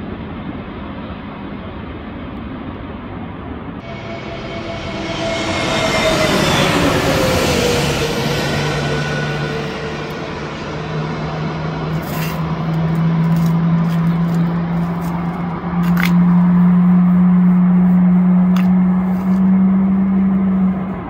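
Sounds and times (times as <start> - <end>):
jet airliner passing overhead: 0.0 - 21.0
low hum: 0.0 - 21.0.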